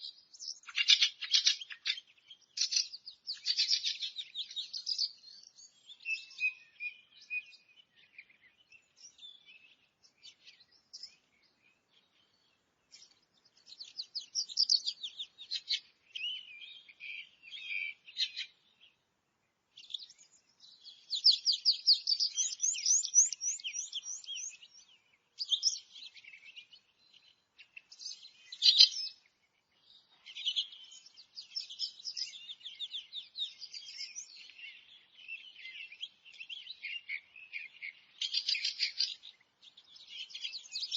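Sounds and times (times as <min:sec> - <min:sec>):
songbirds chirping and warbling: 0:00.0 - 0:40.9.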